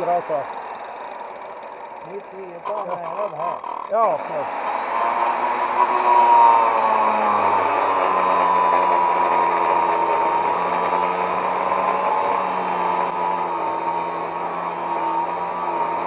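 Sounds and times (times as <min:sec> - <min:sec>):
angle grinder cutting steel: 0:00.0 - 0:16.0.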